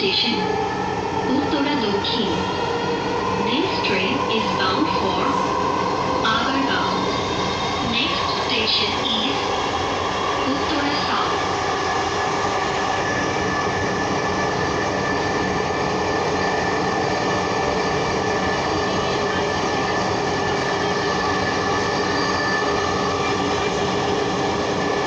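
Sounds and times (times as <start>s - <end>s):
train rolling noise: 0.0s - 25.0s.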